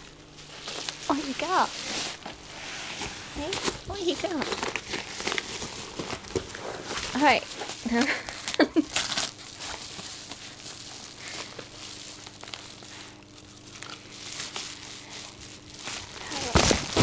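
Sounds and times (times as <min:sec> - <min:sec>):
paper wrapping crinkling: 0:00.0 - 0:17.0.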